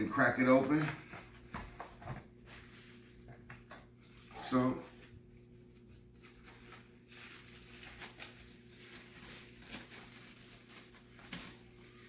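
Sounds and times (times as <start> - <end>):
packaging rustling and crinkling: 0.3 - 12.0.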